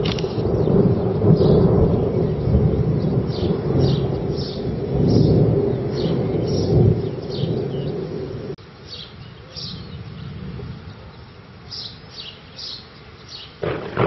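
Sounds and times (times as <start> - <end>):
low thunder rumbling: 0.0 - 8.6, 9.4 - 11.7, 13.6 - 14.0
bird chirping: 0.1 - 14.0.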